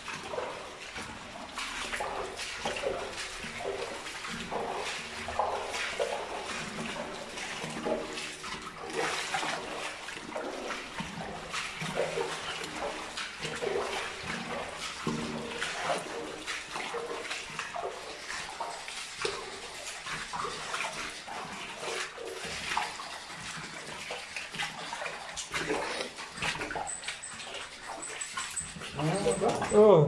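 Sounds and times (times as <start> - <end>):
footsteps splashing through water: 0.0 - 30.0.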